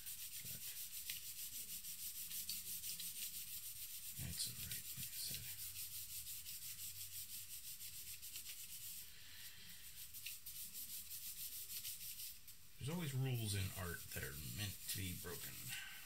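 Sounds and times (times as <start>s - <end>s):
charcoal scratching on paper: 0.0s - 16.0s.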